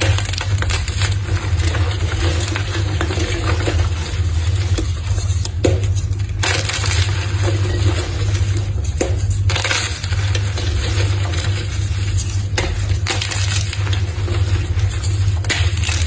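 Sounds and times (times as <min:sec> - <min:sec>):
chalk crunching and crumbling: 0:00.0 - 0:16.0
steady low hum: 0:00.0 - 0:16.0.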